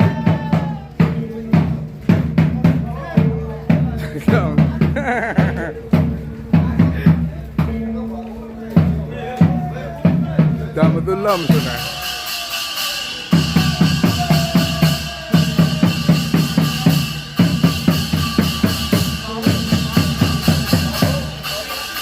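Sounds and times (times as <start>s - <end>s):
drums beating fast rhythm: 0.0s - 22.0s.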